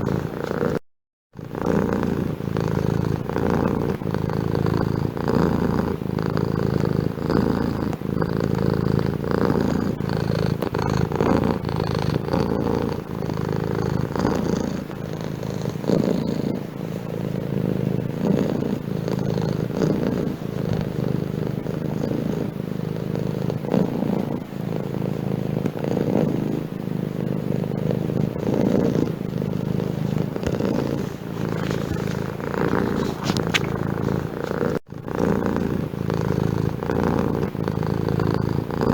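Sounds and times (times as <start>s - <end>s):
cat purring: 0.0s - 0.8s, 1.4s - 38.9s.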